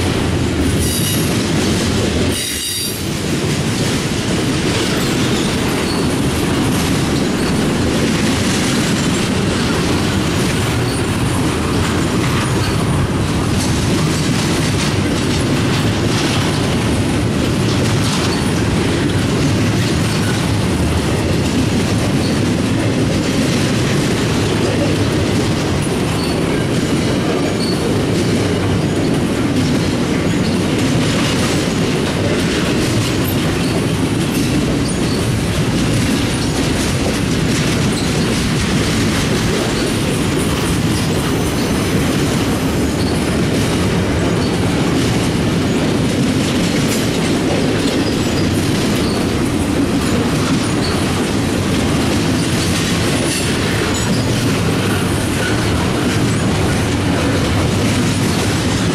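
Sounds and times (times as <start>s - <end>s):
clickety-clack over rail joints: 0.0s - 58.9s
steel wheels rumbling on rail: 0.0s - 58.9s.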